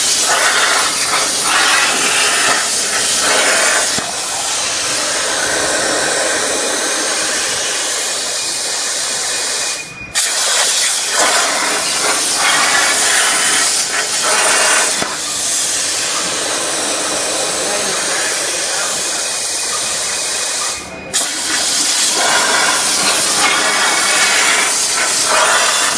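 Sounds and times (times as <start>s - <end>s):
plasma torch cutting steel: 0.0s - 25.9s.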